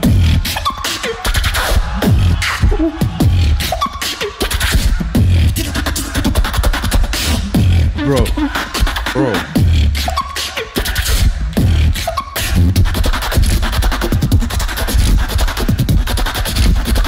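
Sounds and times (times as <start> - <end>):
person beatboxing: 0.0 - 17.0.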